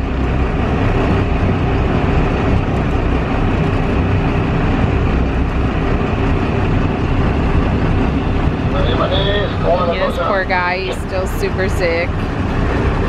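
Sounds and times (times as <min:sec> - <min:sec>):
boat engine humming: 0:00.0 - 0:13.0
water rushing: 0:00.0 - 0:13.0.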